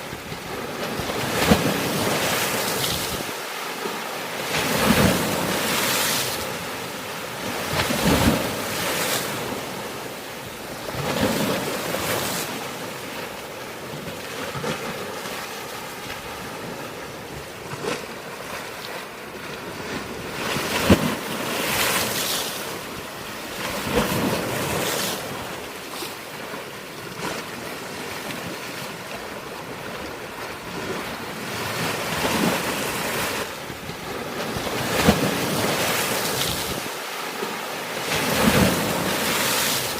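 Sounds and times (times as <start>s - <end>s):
sea waves crashing on rocks: 0.0s - 39.9s.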